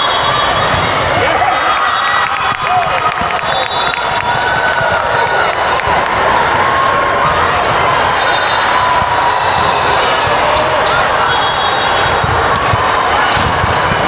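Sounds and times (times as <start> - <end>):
hubbub of voices: 0.0 - 14.0.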